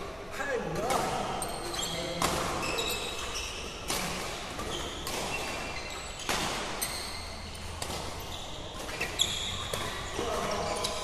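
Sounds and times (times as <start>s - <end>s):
racket hitting shuttlecock: 0.8s - 11.0s
shoes squeaking on court floor: 0.8s - 11.0s.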